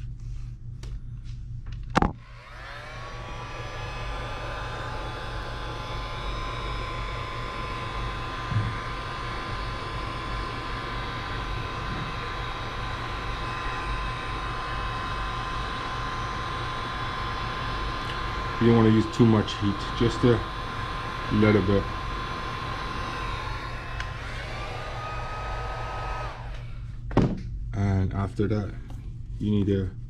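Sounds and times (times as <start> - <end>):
hot-air blower fan whining: 0.0 - 30.0.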